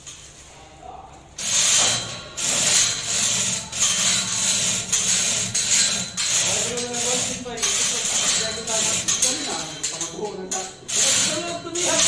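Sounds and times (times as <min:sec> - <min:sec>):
chain running through hoist block: 0:01.4 - 0:12.0.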